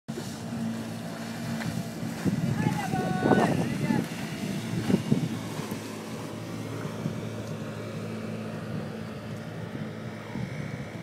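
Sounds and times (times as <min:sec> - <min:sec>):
motorboat engine running: 0:00.1 - 0:11.0
water noise: 0:00.1 - 0:11.0
wind: 0:00.1 - 0:11.0.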